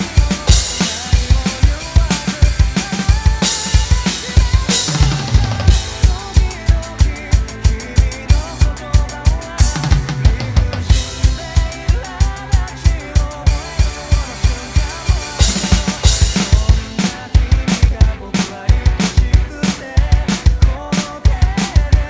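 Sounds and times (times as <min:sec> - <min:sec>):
rock song with singing: 0:00.0 - 0:22.0.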